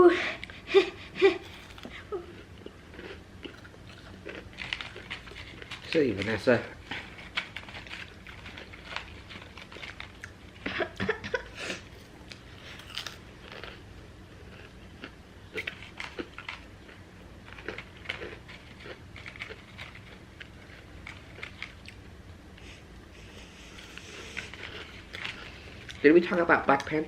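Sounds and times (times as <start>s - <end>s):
chewing crisp food: 1.3s - 26.0s.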